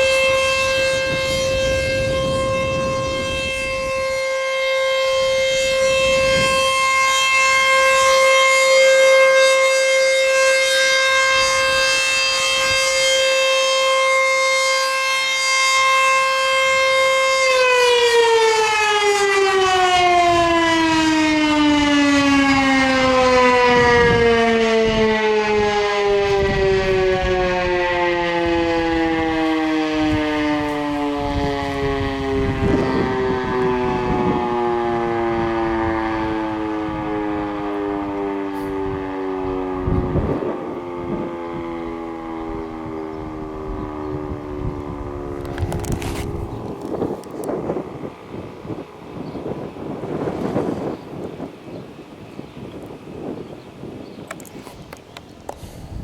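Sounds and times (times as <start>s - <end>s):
electromechanical warning siren: 0.0s - 56.0s.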